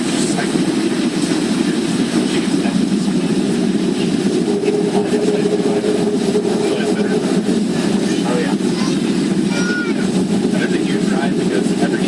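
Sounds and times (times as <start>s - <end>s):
airplane cabin hum: 0.0s - 12.0s
steady tone: 1.0s - 12.0s.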